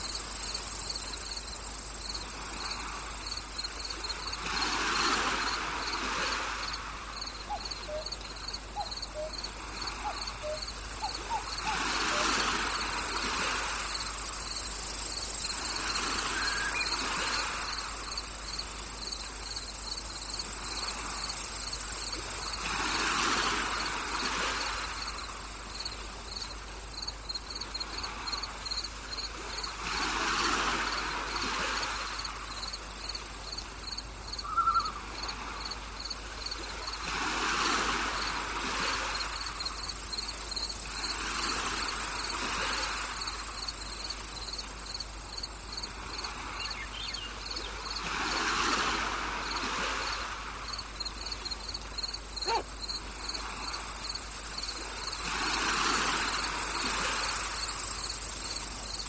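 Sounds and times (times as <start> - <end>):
crickets chirping: 0.0 - 59.0
high insect drone: 0.0 - 59.0.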